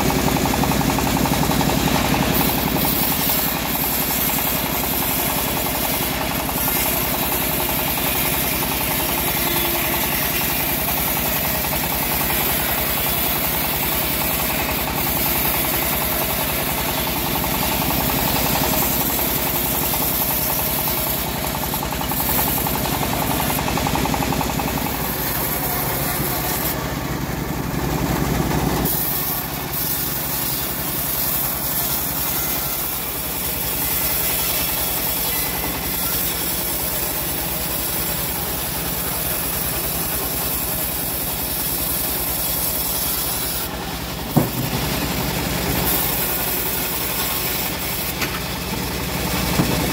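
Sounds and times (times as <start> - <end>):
bandsaw cutting log: 0.0 - 49.9.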